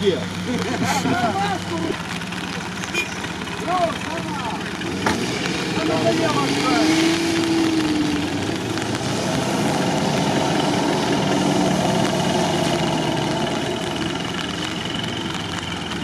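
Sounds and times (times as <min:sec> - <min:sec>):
off-road engines running under load: 0:00.0 - 0:16.0.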